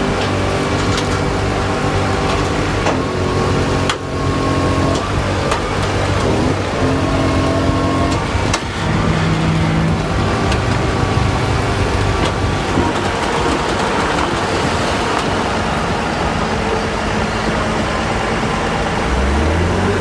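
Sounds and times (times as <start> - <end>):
heavy truck engine under load: 0.0 - 20.0.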